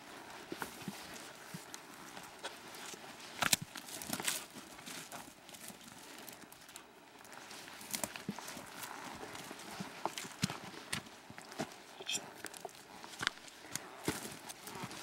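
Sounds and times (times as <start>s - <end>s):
footsteps crunching through dry brush: 0.0s - 15.0s.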